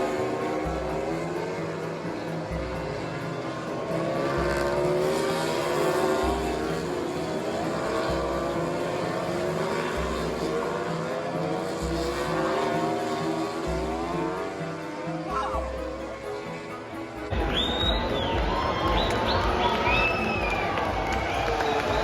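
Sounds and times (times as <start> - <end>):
background music with bass pulse: 0.0 - 22.0
racing motorcycle engines revving: 0.0 - 22.0.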